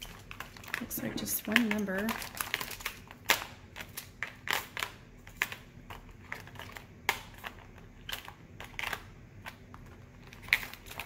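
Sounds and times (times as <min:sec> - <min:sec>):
plastic containers clicking: 0:00.0 - 0:11.0.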